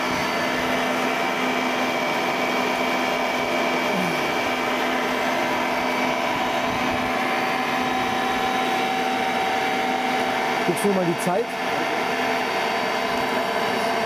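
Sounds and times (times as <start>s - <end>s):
motor-generator humming and whining: 0.0s - 14.0s.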